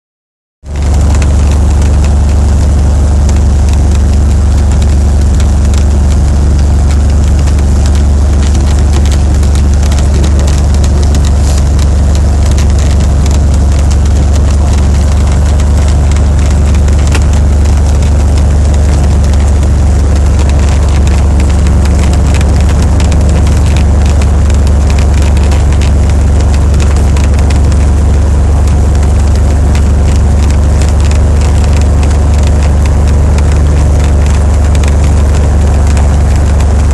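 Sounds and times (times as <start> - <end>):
propeller plane engine droning: 0.7 - 36.9.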